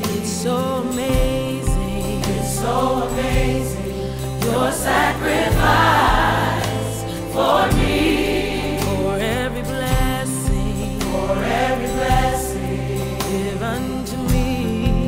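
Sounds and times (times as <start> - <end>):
choir singing gospel: 0.0 - 15.0
low musical accompaniment: 0.0 - 15.0.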